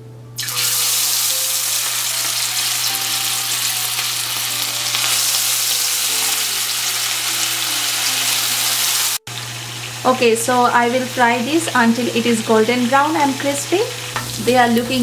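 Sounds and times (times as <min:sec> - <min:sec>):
chicken sizzling in hot oil: 0:00.4 - 0:15.0.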